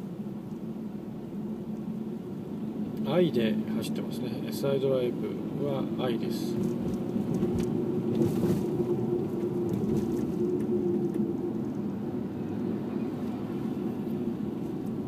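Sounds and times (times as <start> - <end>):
car engine drone: 0.0 - 15.0
road noise inside car: 0.0 - 15.0.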